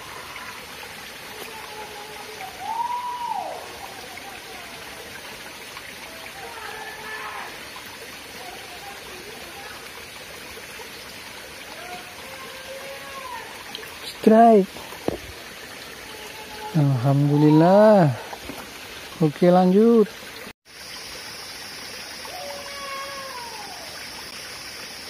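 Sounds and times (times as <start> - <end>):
stream trickling over rocks: 0.0 - 25.0.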